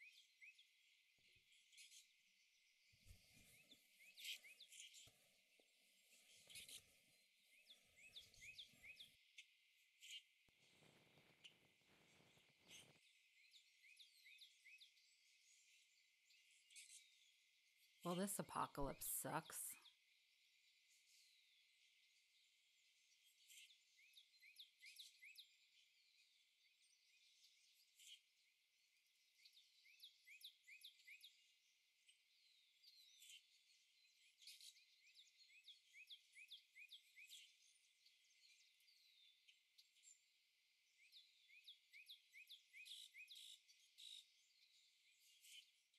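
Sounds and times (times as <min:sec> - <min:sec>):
faint bird chirps: 0:00.0 - 0:45.9.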